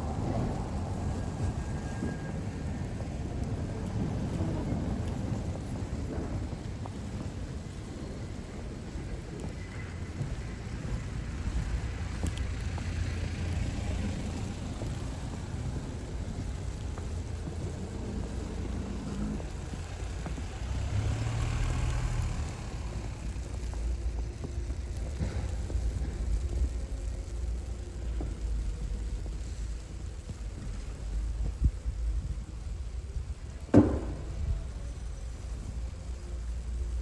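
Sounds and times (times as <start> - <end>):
low steady rumble: 0.0 - 37.0
vehicle engine humming past: 0.0 - 37.0.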